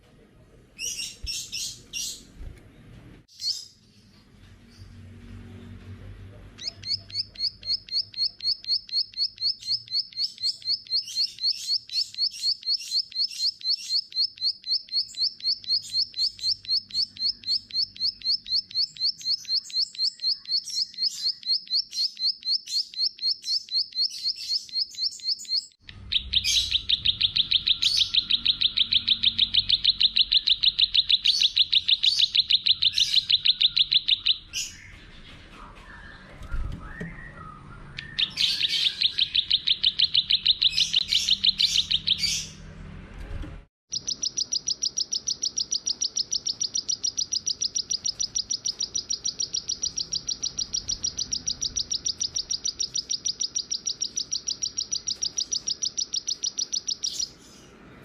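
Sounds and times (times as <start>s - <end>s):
songbird chirping and trilling: 0.7s - 5.9s, 6.5s - 42.7s, 43.9s - 58.0s.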